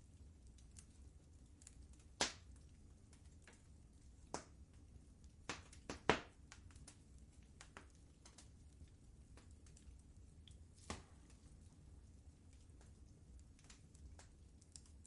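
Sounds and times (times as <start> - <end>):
low steady rumble: 0.0 - 5.5, 6.4 - 15.0
wood fire crackling: 0.0 - 15.0.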